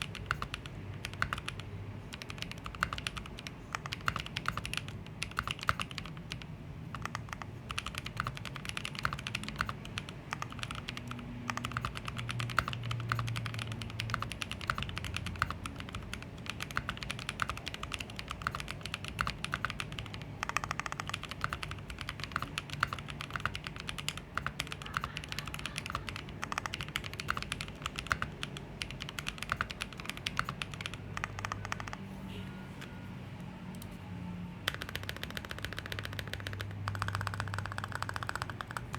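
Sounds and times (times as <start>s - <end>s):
fast mechanical keyboard typing: 0.0s - 32.0s, 34.6s - 38.9s.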